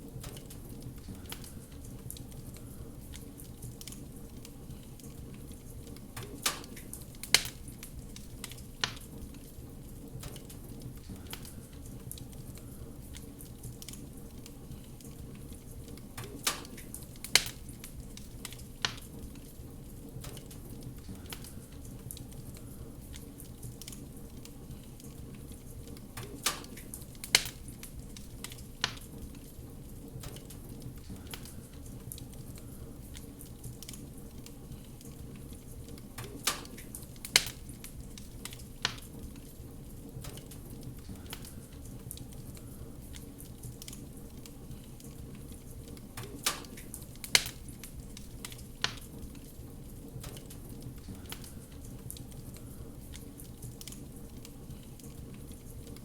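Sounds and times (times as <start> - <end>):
fire crackling pops: 0.0 - 56.0
fire hissing: 0.0 - 56.0.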